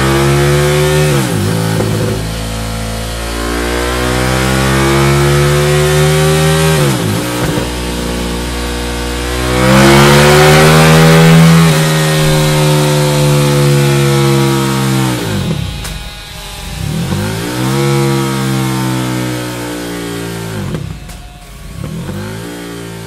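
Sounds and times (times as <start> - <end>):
motorcycle exhaust revving: 0.0 - 23.0.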